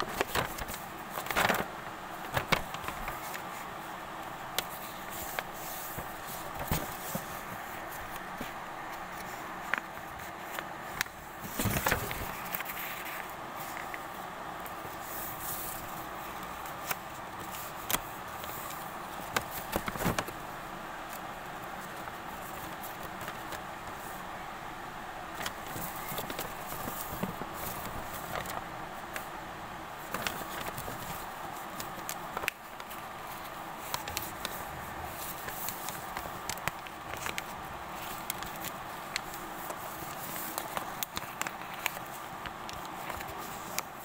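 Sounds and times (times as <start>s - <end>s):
paper crinkling and folding: 0.0s - 44.0s.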